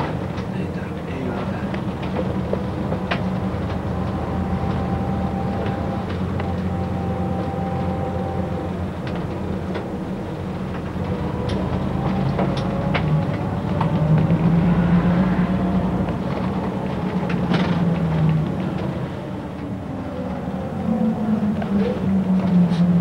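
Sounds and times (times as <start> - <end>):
bus engine and road drone: 0.0 - 23.0.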